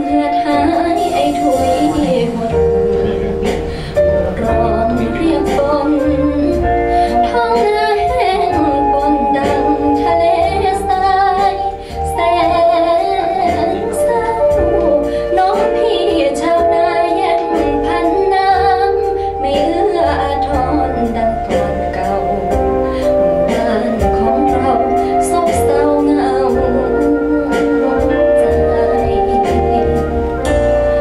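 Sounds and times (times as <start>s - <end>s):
band accompaniment: 0.0s - 31.0s
woman singing ballad: 0.0s - 31.0s.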